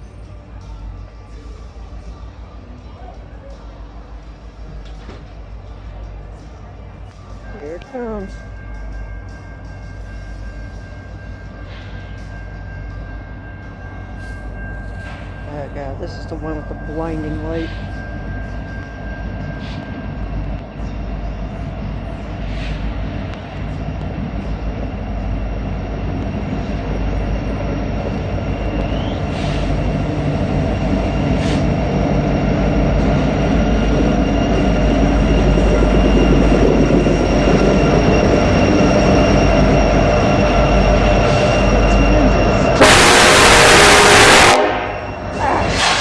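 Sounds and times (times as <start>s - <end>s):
train rumble: 0.0s - 46.0s.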